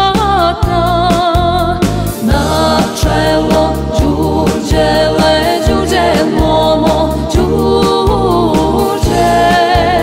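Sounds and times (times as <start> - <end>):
bass line: 0.0 - 10.0
woman singing with vibrato: 0.0 - 10.0.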